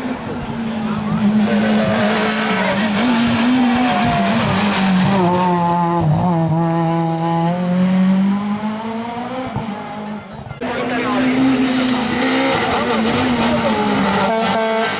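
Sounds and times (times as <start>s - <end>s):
rally car engine at high revs: 0.0s - 14.9s.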